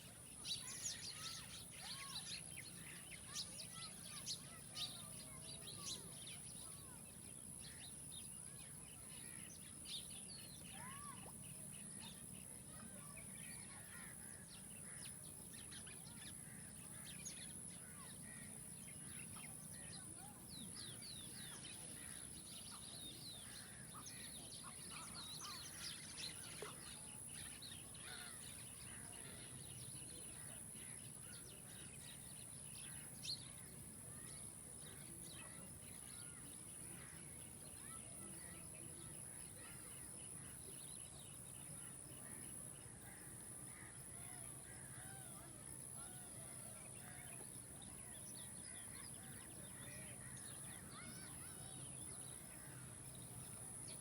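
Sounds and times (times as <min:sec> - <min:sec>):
small birds chirping: 0:00.0 - 0:43.2.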